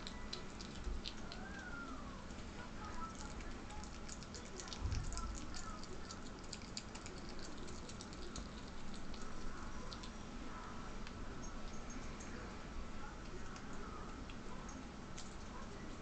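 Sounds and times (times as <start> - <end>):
ferret chewing with crunching clicks: 0.0 - 16.0.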